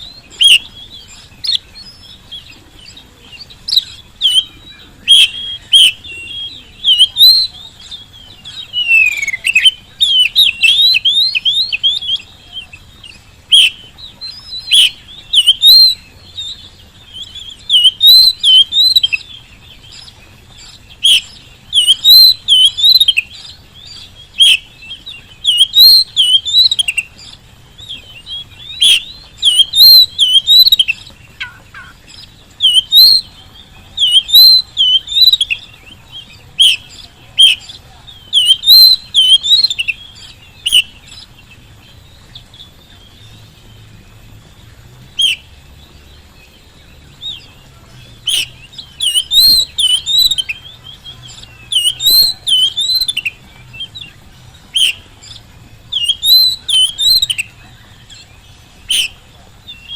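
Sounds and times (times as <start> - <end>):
bird singing whistled phrases: 0.0 - 44.1, 45.1 - 59.9.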